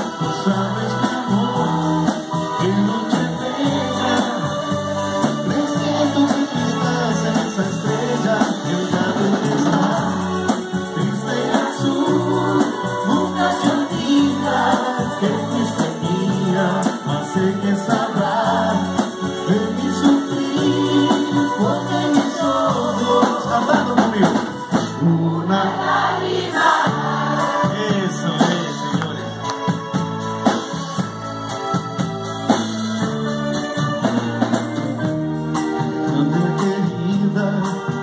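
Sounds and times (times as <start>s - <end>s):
person singing: 0.0s - 29.8s, 35.8s - 38.0s
live band music: 0.0s - 38.0s.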